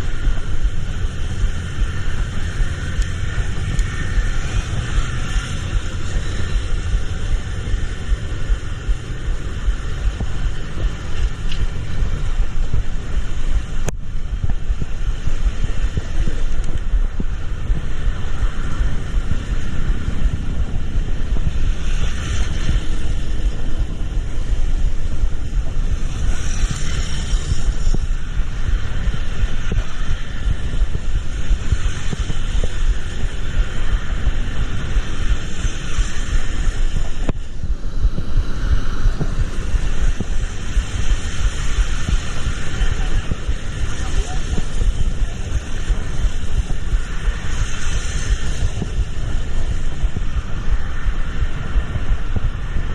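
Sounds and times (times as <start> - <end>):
vehicle rumble with road noise: 0.0 - 52.9.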